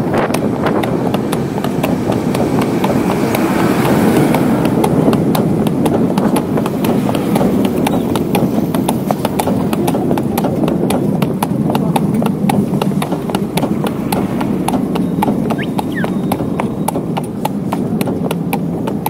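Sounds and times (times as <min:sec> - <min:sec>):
cart rumbling: 0:00.0 - 0:19.0
hooves clip-clopping on pavement: 0:00.0 - 0:19.0.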